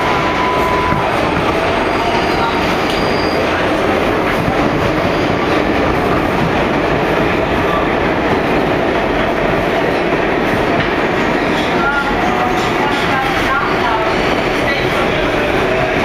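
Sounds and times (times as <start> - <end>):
subway train rumbling in tunnel: 0.0 - 16.0.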